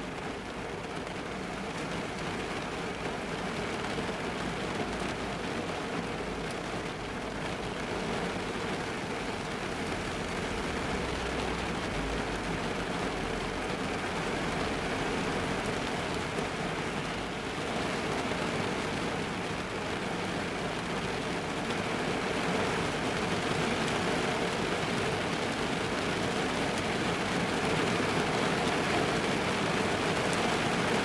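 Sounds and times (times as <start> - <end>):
heavy rain drumming on a car roof: 0.0 - 31.0.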